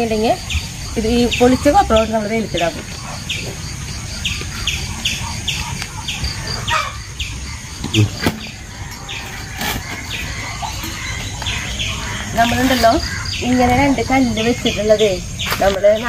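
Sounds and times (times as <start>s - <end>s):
bird calling with falling notes: 1.2s - 16.0s.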